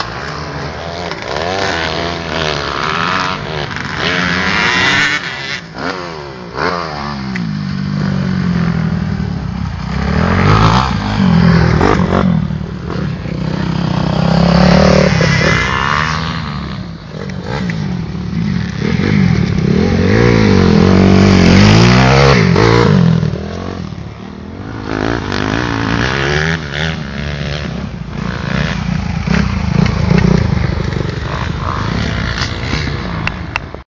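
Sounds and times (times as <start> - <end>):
motocross motorcycles revving past: 0.0 - 33.8.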